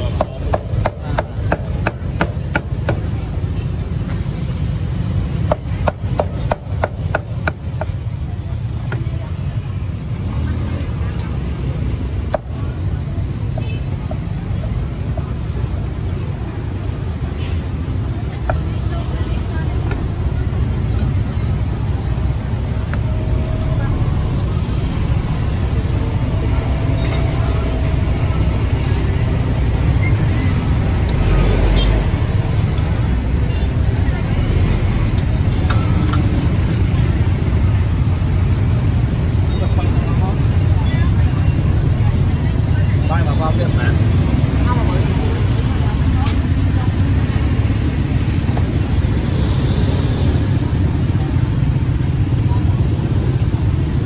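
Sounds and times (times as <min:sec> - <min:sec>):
street traffic rumble: 0:00.0 - 0:54.0.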